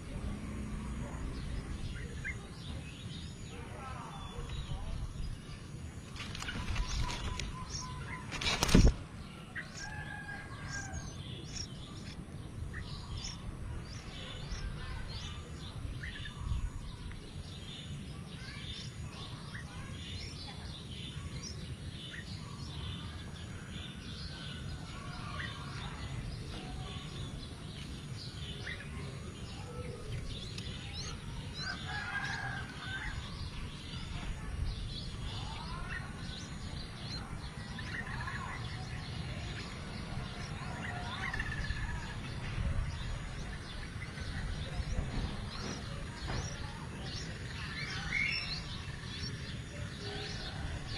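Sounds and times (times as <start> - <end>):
birds chirping: 0.0 - 50.9
bird call phrases: 0.6 - 50.9.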